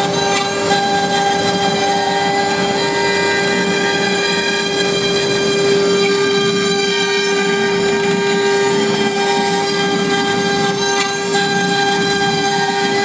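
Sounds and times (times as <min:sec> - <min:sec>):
bit rasping into wood: 0:00.0 - 0:13.0
router spindle whine: 0:00.0 - 0:13.0.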